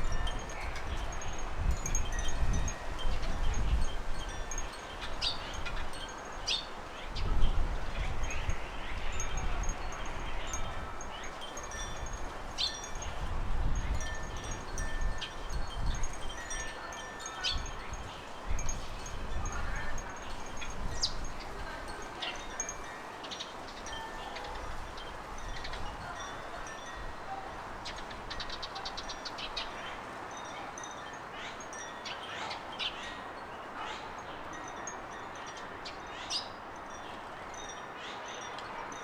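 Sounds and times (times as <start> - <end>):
songbirds chirping and trilling: 0.0 - 39.0
wind in leaves: 0.0 - 39.0.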